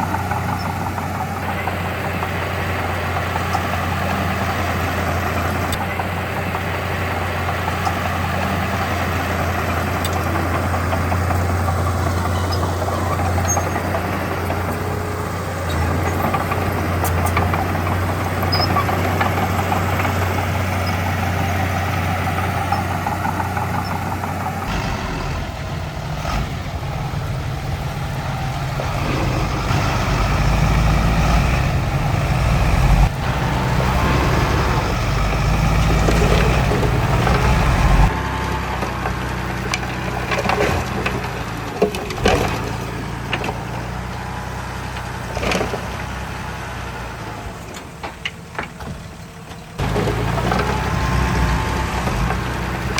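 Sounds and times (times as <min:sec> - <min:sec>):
heavy machine diesel engines: 0:00.0 - 0:52.9.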